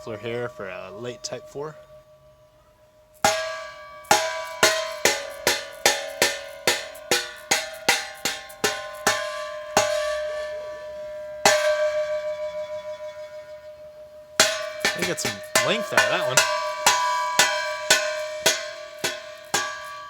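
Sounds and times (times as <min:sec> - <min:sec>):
metal muffler tapped ringing: 0:00.0 - 0:20.0.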